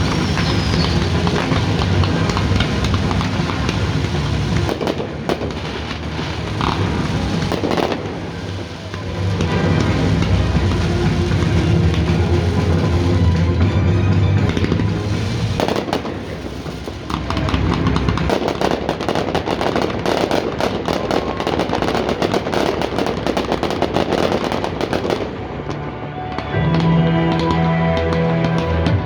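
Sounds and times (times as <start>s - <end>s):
fireworks bangs and crackles: 0.0s - 29.0s
music over stadium loudspeakers: 0.0s - 29.0s.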